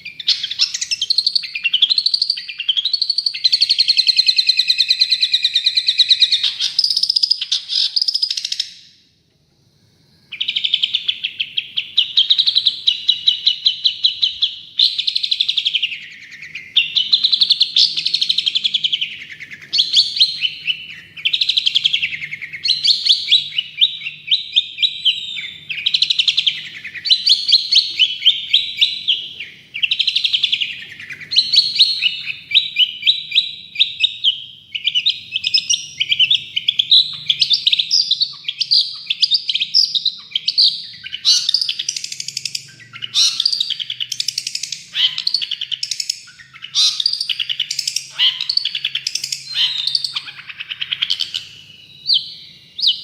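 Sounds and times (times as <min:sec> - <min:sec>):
shrike singing rattling trills: 0:00.0 - 0:09.0, 0:10.2 - 0:53.0.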